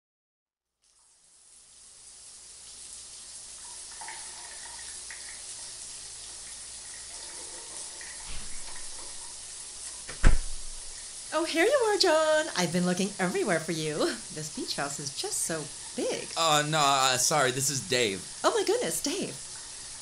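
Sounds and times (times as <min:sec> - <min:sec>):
shower spray running: 0:01.4 - 0:20.0.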